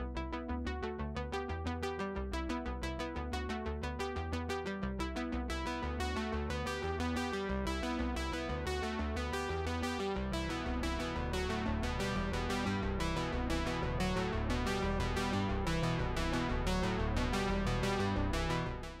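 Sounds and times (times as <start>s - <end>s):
synthesizer and keyboard music: 0.0s - 19.0s.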